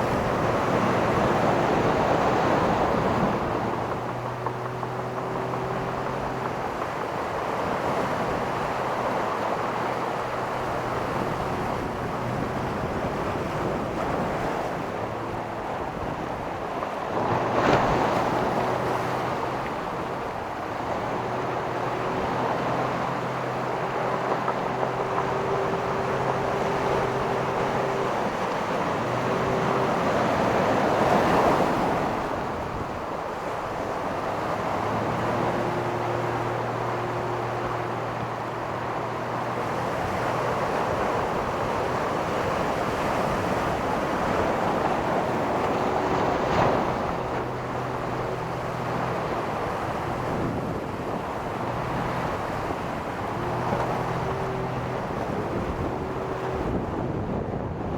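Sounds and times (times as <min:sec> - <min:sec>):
ocean surf washing on shore: 0:00.0 - 0:57.9
wave breaking: 0:00.0 - 0:57.9
wind on microphone: 0:00.0 - 0:57.9.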